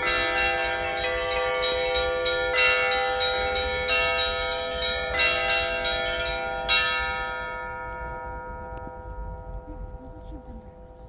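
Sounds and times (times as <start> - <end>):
church bells pealing: 0.0 - 11.0.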